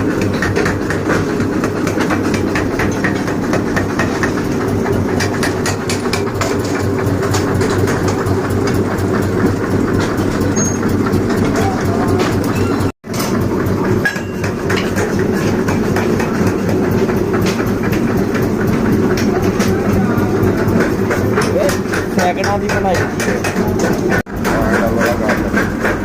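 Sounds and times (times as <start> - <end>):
machine humming and clattering: 0.0 - 26.0.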